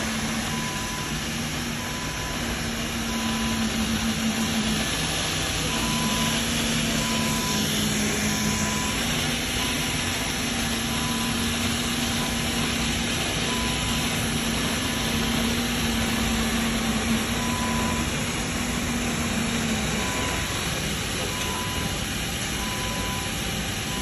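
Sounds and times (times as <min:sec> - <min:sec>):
floor scrubber whirring hum: 0:00.0 - 0:24.0.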